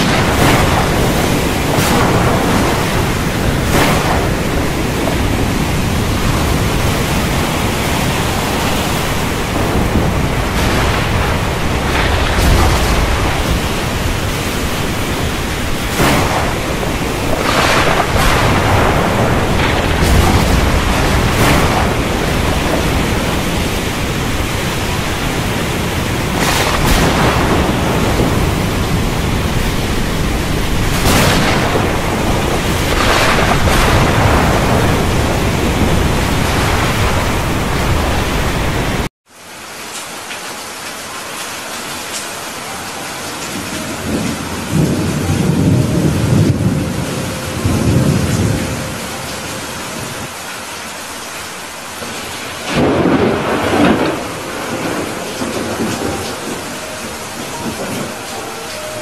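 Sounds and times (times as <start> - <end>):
thunder rumbling: 0.0 - 39.1, 42.7 - 50.4, 51.1 - 59.0
heavy rain hiss: 0.0 - 59.0.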